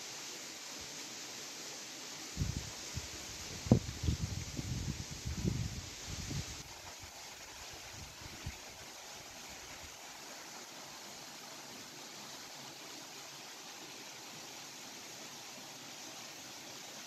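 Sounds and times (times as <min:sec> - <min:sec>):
waterfall pouring over rocks: 0:00.0 - 0:17.0.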